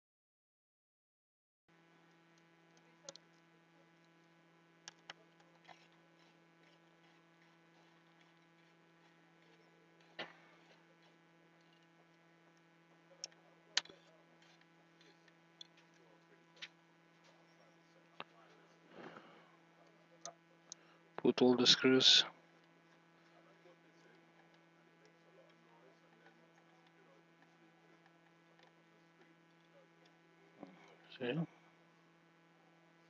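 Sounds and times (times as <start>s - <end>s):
faint electrical hum: 1.8s - 33.0s.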